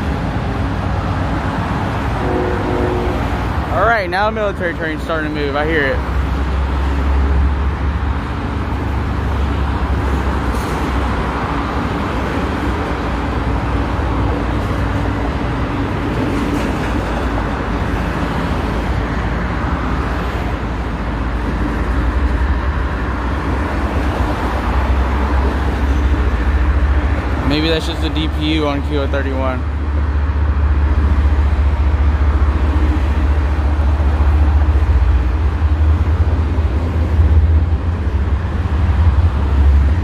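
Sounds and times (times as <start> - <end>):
diesel locomotive rumbling: 0.0 - 40.0
road traffic noise: 0.0 - 40.0.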